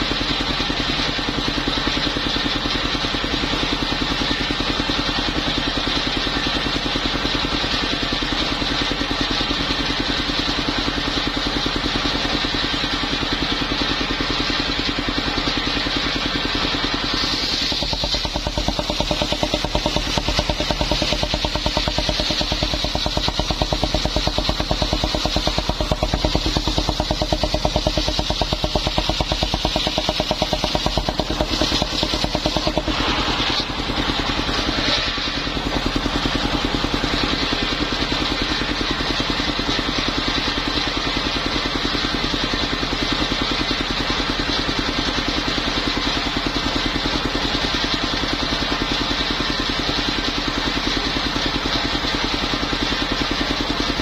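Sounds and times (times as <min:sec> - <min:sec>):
sawmill engine pulsing: 0:00.0 - 0:54.0.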